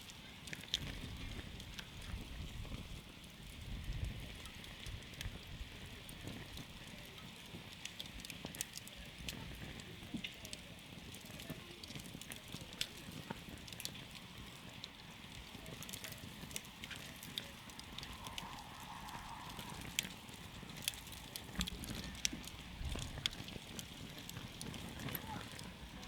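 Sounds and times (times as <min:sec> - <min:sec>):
wood campfire crackling: 0:00.0 - 0:26.0.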